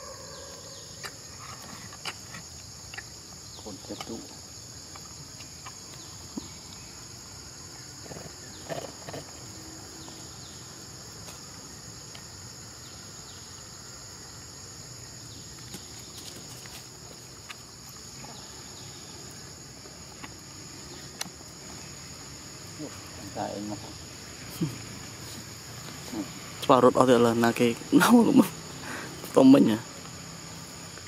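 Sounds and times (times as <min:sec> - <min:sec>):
insect chorus: 0:00.0 - 0:31.0.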